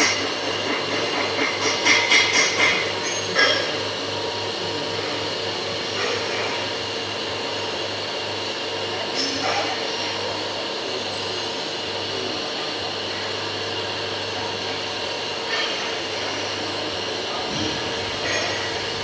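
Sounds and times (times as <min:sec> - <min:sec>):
hydraulic pump whining: 0:00.0 - 0:19.0.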